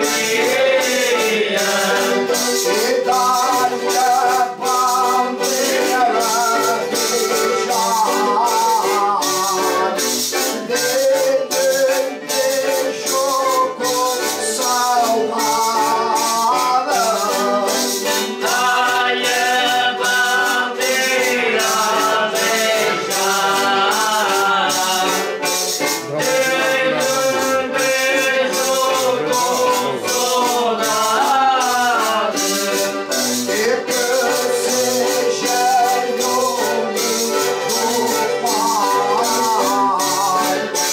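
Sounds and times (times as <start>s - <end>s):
accordion: 0.0s - 40.9s
group singing folk song: 0.0s - 40.9s
rattling percussion: 0.0s - 40.9s
strummed guitar: 0.0s - 40.9s.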